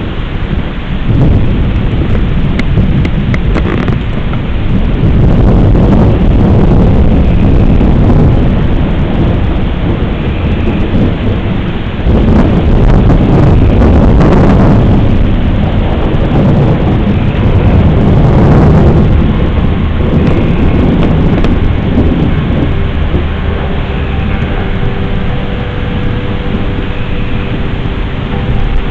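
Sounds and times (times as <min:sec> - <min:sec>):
steady rain: 0:00.0 - 0:28.9
thunder rumbling: 0:00.0 - 0:28.9.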